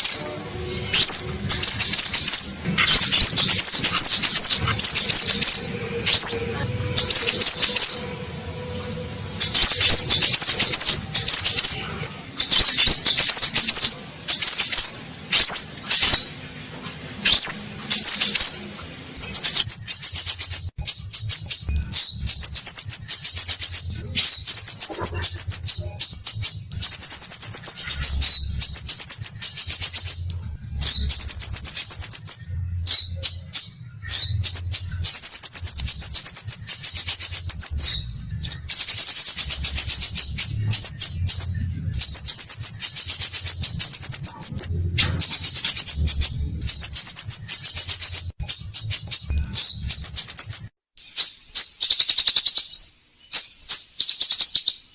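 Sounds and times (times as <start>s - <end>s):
bird singing rapid high phrases: 0.0s - 8.4s, 9.4s - 16.5s, 17.2s - 54.9s.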